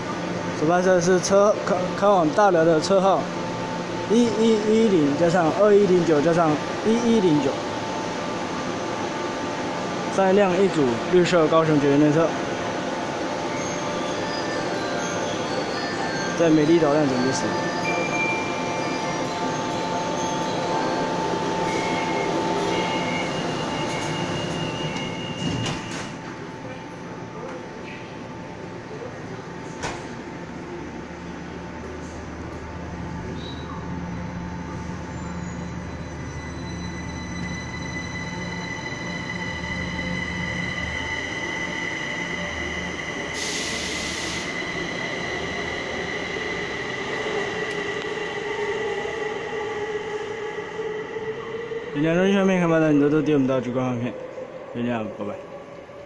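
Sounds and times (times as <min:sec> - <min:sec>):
electric train running whine: 0:00.0 - 0:56.0.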